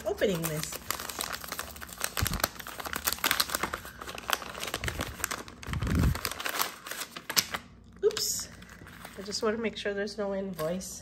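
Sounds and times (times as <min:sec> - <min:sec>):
paper envelope crinkling: 0:00.0 - 0:09.6.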